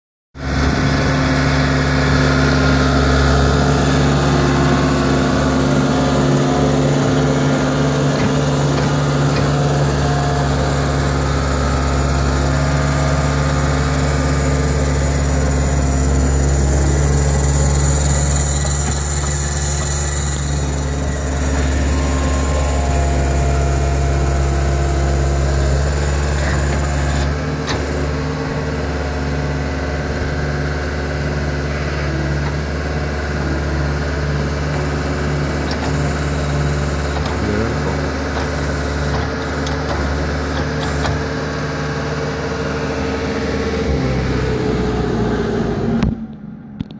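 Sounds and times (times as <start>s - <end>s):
diesel engine under load: 0.4s - 46.9s.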